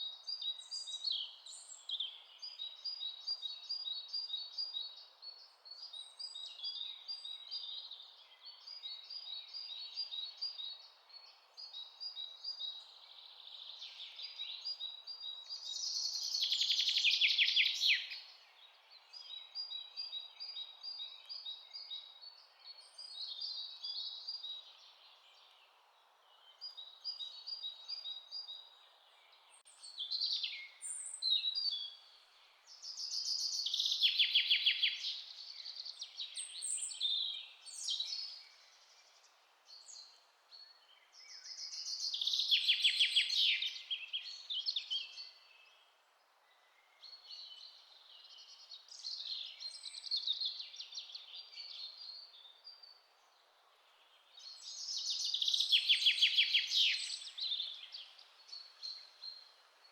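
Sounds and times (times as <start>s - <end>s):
soft bird chirps: 0.0s - 59.9s
songbird song with fast trill: 0.0s - 59.9s.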